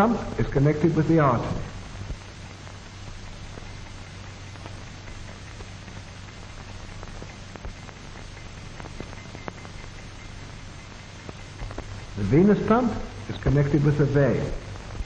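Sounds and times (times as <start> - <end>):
crackles and pops: 0.0 - 15.0
film hiss: 0.0 - 15.0
low hum: 0.0 - 15.0.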